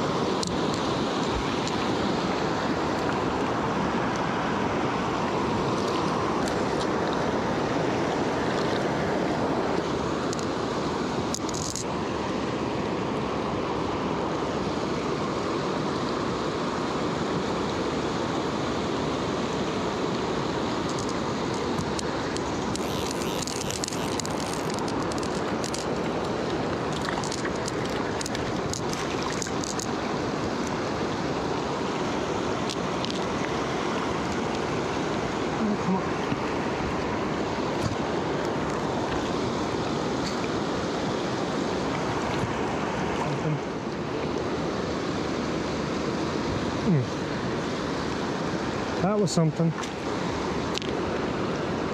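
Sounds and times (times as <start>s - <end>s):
river water rushing over rocks: 0.0s - 51.9s
water splashes and trickles: 0.0s - 51.9s.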